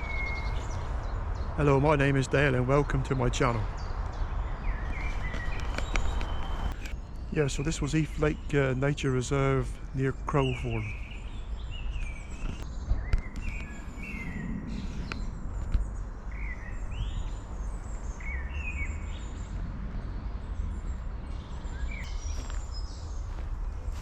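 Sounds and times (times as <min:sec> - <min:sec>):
small birds singing and chirping: 0:00.0 - 0:24.0
steady low rumble: 0:00.0 - 0:24.0.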